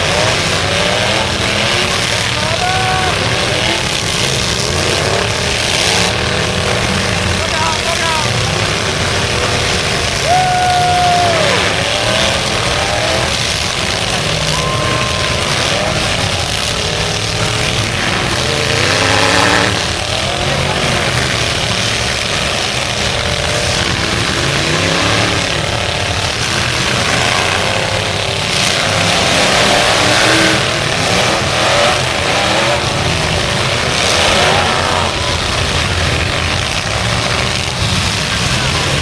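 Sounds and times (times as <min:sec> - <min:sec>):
pickup truck engines revving: 0:00.0 - 0:39.0.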